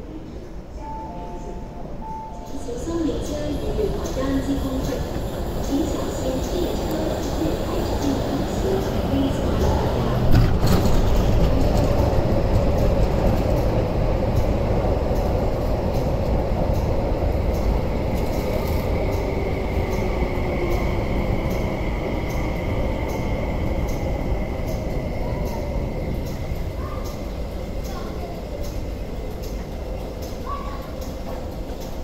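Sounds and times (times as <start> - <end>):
train running rumble: 2.6 - 32.0.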